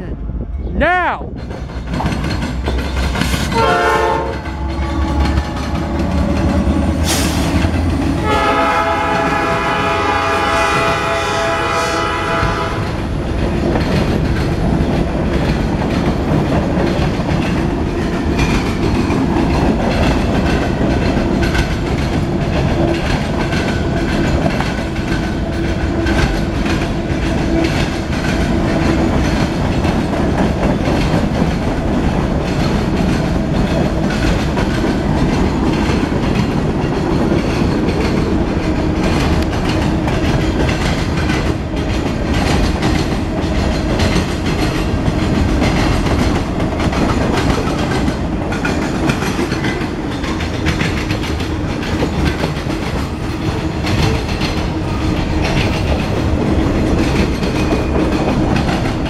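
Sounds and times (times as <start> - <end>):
freight train rolling past: 0.0 - 59.0
wheels clicking over rail joints: 1.4 - 10.8, 12.5 - 59.0.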